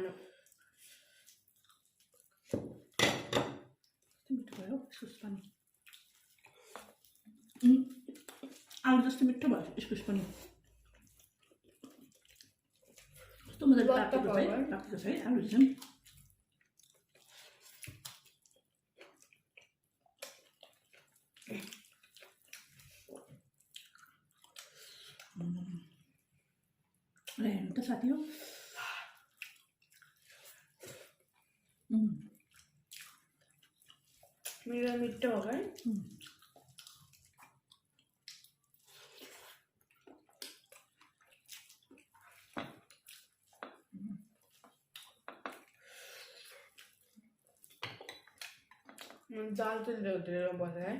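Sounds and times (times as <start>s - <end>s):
wet chewing and lip smacks: 0.4s - 3.0s, 3.7s - 4.7s, 5.3s - 8.9s, 10.1s - 13.6s, 15.6s - 25.4s, 29.0s - 49.3s.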